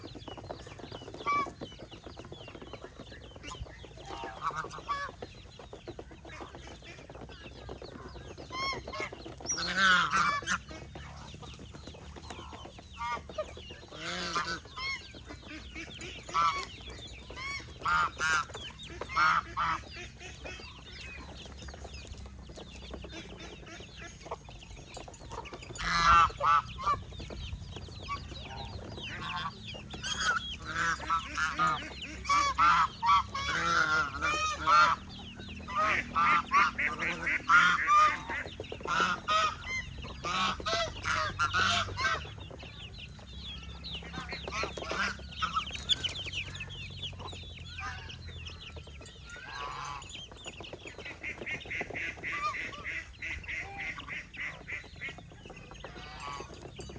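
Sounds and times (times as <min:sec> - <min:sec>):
geese honking: 0:00.0 - 0:21.9, 0:22.7 - 0:56.9
chickens clucking: 0:00.0 - 0:56.9.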